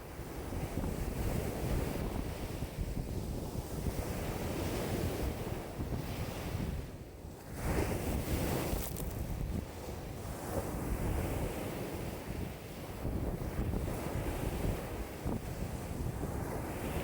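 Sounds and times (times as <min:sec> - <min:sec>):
waves washing on a lake: 0:00.0 - 0:17.0
wind buffeting microphone: 0:00.0 - 0:17.0.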